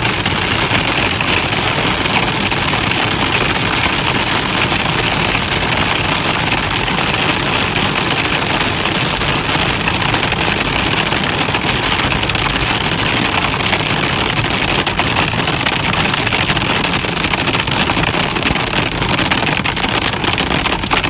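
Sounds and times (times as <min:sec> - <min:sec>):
hail and rain on a vehicle: 0:00.0 - 0:21.0.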